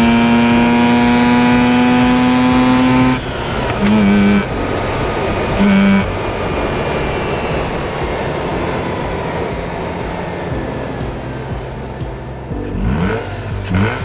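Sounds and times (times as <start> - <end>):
engine and road noise: 0.0 - 14.0
rotary engine blasts: 0.0 - 14.0.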